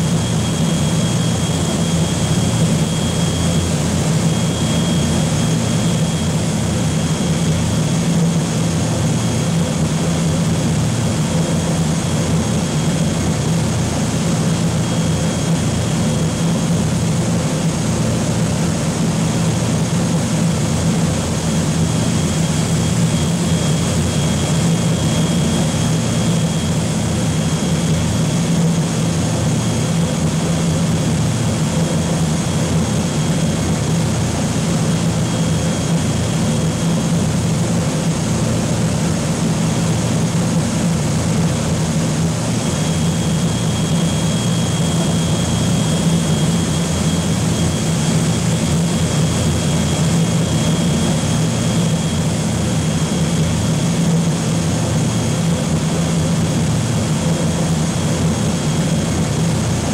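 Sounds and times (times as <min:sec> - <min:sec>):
propeller engines droning: 0:00.0 - 0:59.9.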